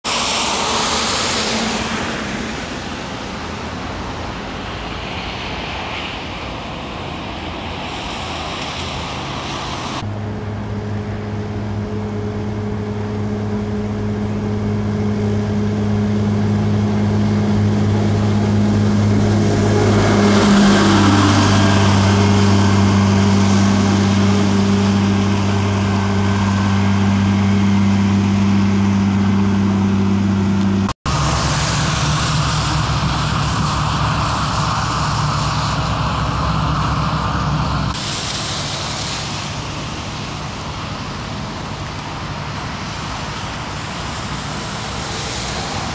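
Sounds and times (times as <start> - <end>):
rough engine drone: 0.0 - 45.9
windy hiss: 0.0 - 45.9
heavy loader engine running: 8.6 - 45.9.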